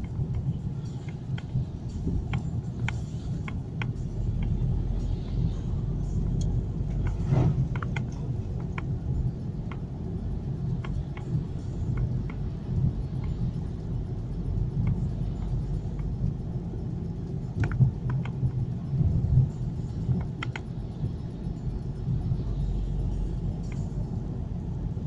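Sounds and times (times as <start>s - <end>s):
car road and engine rumble: 0.0s - 25.0s
light clicks and rattles: 0.0s - 25.0s.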